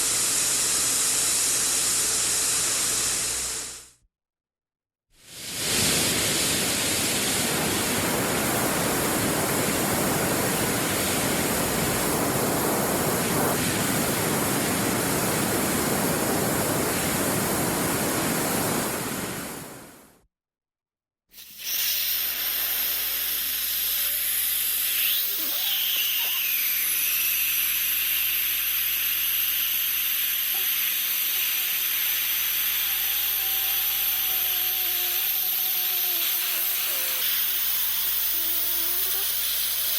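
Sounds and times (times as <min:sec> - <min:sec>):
air escaping hiss: 0:05.2 - 0:19.6, 0:21.3 - 0:39.9.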